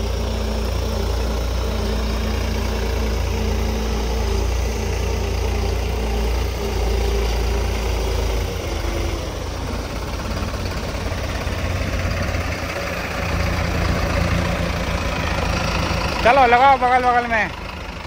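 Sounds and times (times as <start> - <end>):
tractor engines passing by: 0.0 - 18.0.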